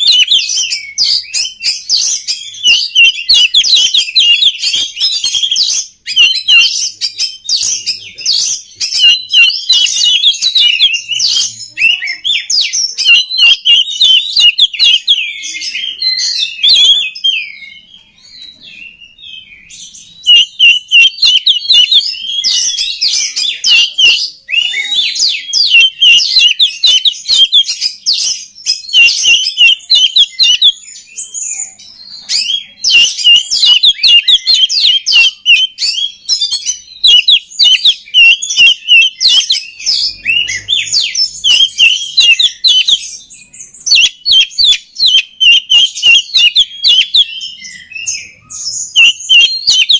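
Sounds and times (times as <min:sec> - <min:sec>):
bird singing whistles and chatter: 0:00.0 - 0:49.9.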